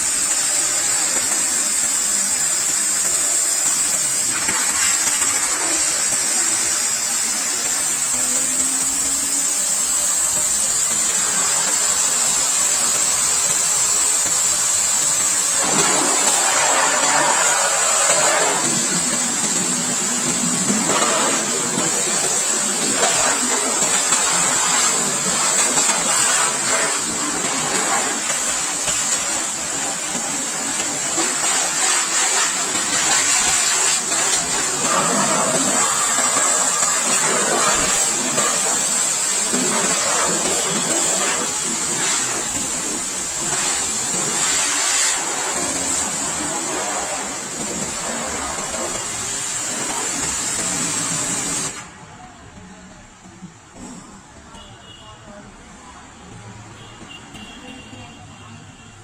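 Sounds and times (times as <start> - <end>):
pressure washer jet hissing: 0.0 - 52.0.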